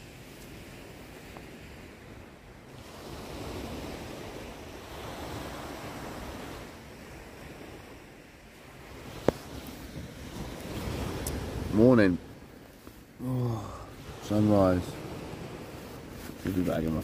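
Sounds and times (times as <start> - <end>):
sea waves washing on beach: 0.0 - 17.0
wind: 0.0 - 17.0.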